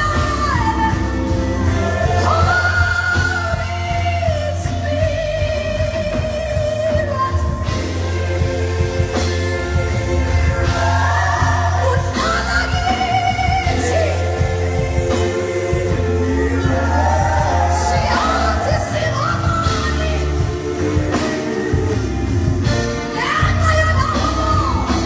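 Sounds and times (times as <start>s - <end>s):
band with drums and piano: 0.0s - 25.0s
woman singing gospel: 0.0s - 25.0s.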